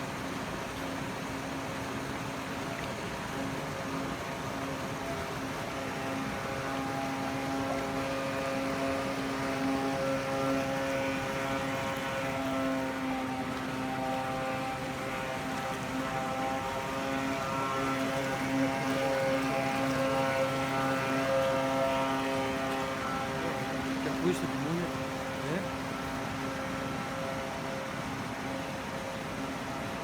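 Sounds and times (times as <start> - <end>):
rc boat motor buzzing whine: 0.0 - 30.0.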